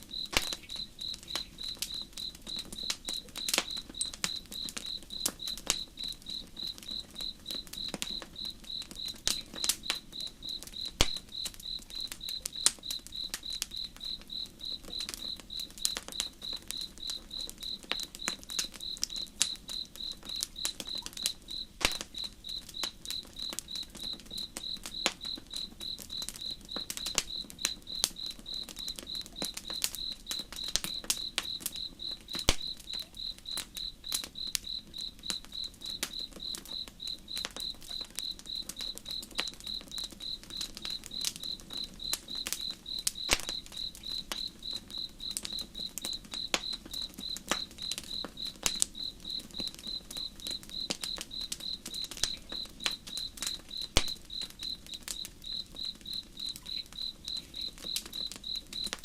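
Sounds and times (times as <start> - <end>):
campfire crackling: 0.0 - 59.0
crickets chirping: 0.0 - 59.0.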